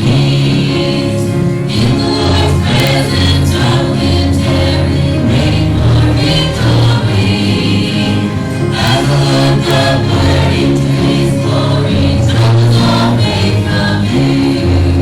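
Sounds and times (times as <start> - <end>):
congregation singing a hymn: 0.0 - 15.0
instrumental accompaniment: 0.0 - 15.0.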